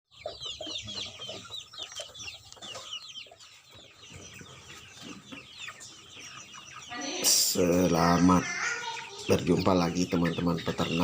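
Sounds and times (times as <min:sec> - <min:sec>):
chickens clucking: 0:00.1 - 0:11.0
chicks peeping: 0:00.1 - 0:11.0.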